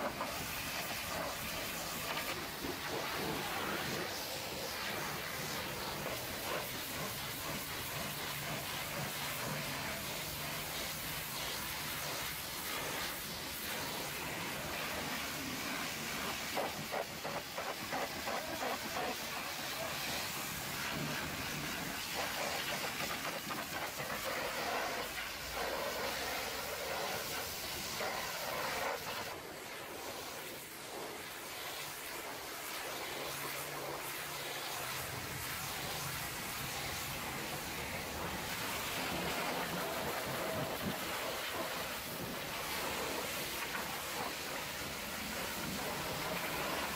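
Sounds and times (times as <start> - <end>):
pressure washer spraying water: 0.0 - 46.9.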